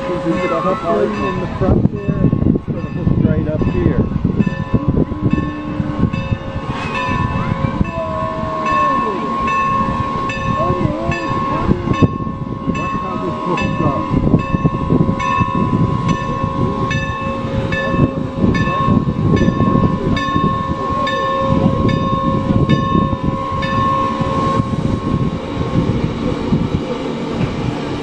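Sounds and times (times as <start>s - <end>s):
locomotive bell ringing: 0.0s - 27.3s
steam locomotive rumbling: 0.0s - 28.0s.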